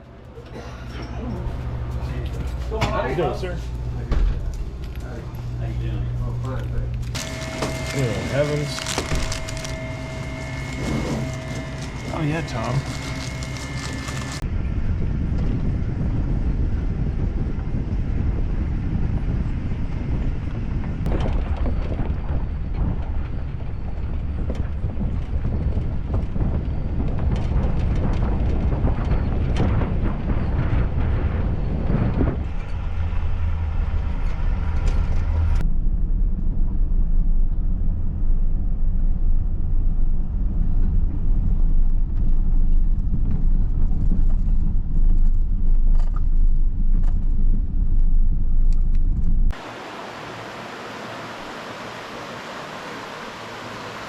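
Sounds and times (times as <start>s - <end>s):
engine and road noise rumble: 0.0s - 54.0s.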